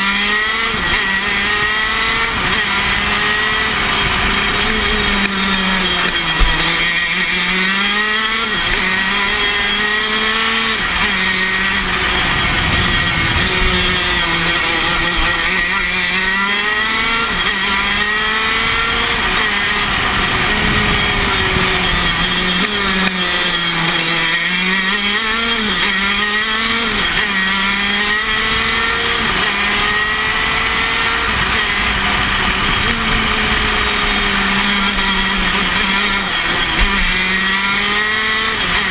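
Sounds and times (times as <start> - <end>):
kart engine revving through gears: 0.0 - 38.9.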